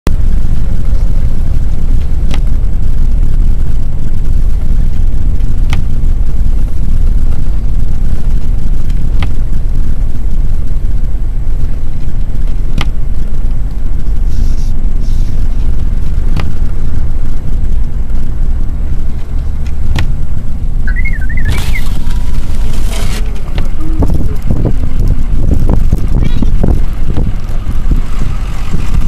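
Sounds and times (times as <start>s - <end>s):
truck rumbling on snowy road: 0.1s - 29.0s.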